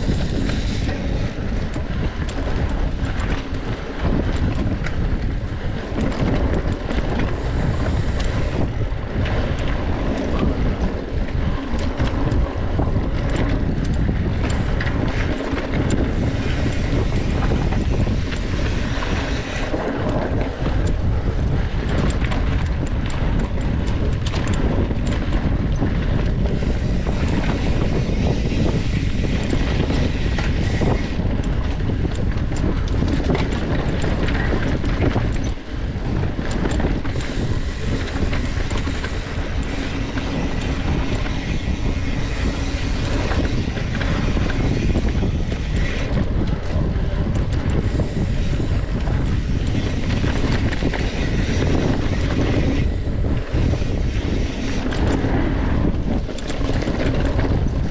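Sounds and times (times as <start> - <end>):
bike rattling and clicking: 0.0 - 57.9
wind rushing over microphone: 0.0 - 57.9.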